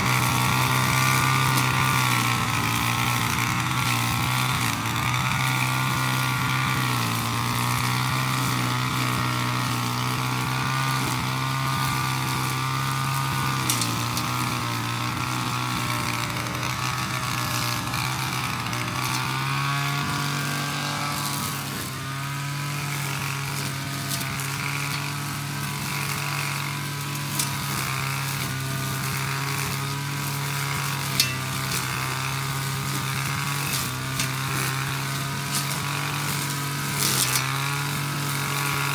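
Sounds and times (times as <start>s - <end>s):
brushcutter engine cutting grass: 0.0s - 38.9s.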